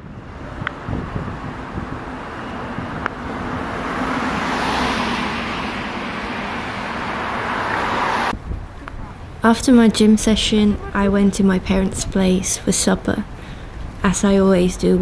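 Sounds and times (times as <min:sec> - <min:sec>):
vehicle tyre and engine noise: 0:00.0 - 0:12.3.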